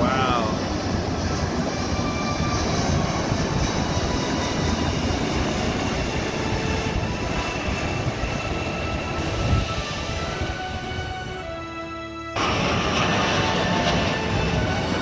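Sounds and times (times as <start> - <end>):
jet engines rumbling overhead: 0.0 - 15.0.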